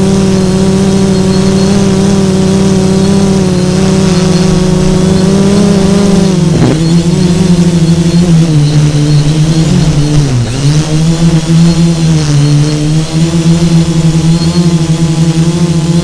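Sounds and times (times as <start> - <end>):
drone motors buzzing: 0.0 - 16.0.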